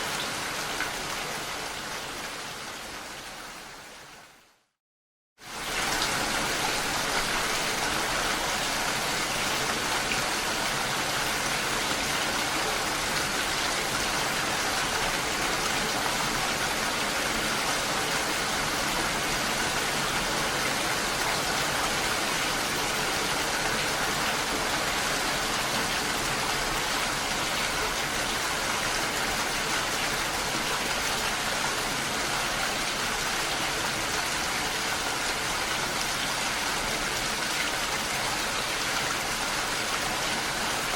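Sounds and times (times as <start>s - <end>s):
steady rain falling: 0.0s - 4.7s, 5.4s - 40.9s.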